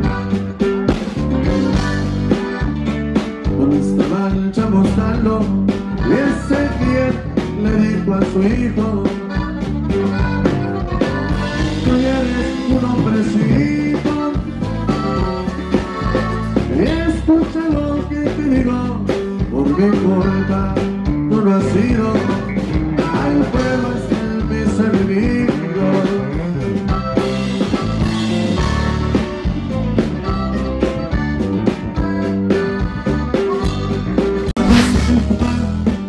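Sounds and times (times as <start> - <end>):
live band through loudspeakers: 0.0 - 36.0.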